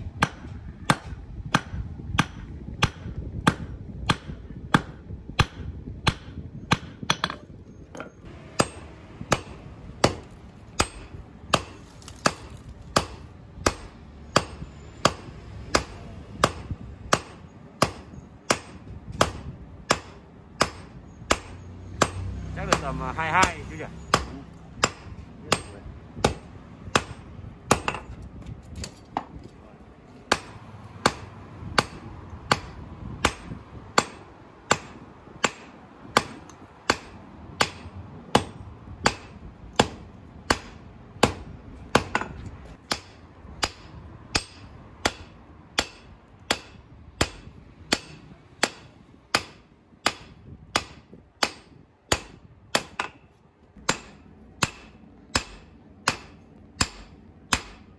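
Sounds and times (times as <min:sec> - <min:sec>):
hammer striking hot steel on anvil: 0:00.2 - 0:29.4, 0:30.3 - 0:57.9.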